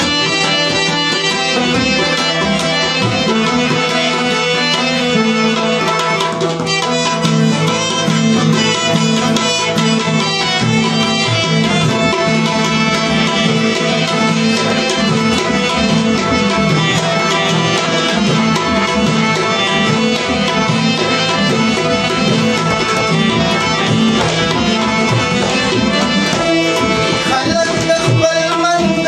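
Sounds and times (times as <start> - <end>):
harmonium: 0.0 - 29.0
rubab playing melody: 0.0 - 29.0
tabla drums: 0.0 - 29.0.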